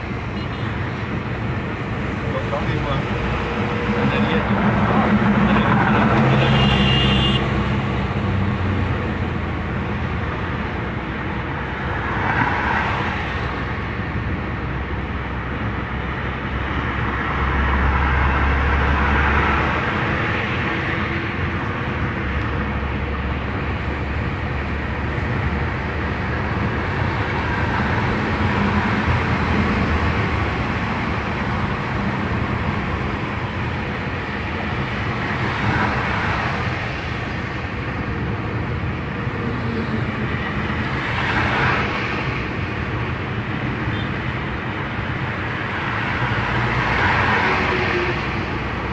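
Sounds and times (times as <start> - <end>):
car engine hum: 0.0 - 48.9
tyre and road noise: 0.0 - 48.9.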